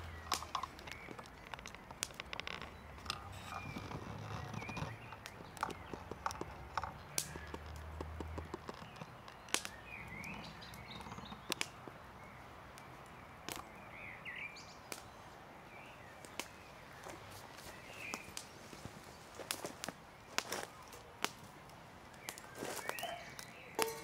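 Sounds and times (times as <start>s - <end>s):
birds chirping: 0.0s - 24.0s
campfire crackling: 0.0s - 24.0s.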